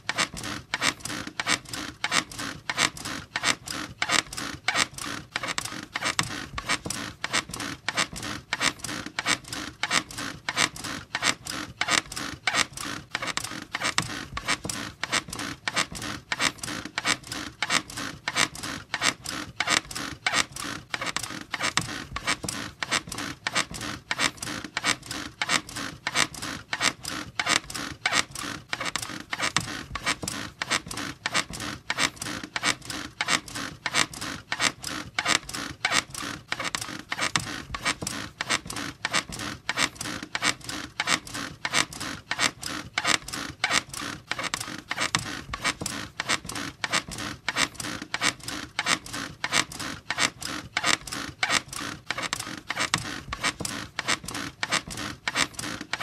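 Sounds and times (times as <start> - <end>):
squeaky bed creaking: 0.0 - 56.0.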